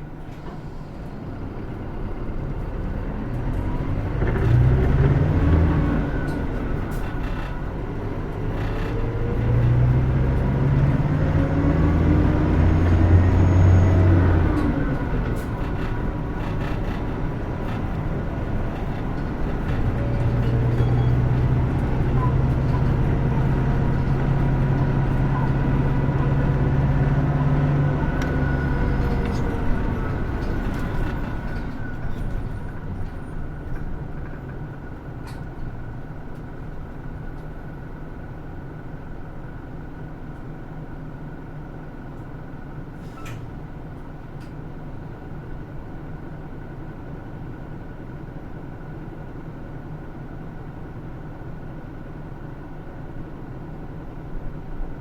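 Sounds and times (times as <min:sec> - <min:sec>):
bus diesel engine under load: 0:00.0 - 0:55.0.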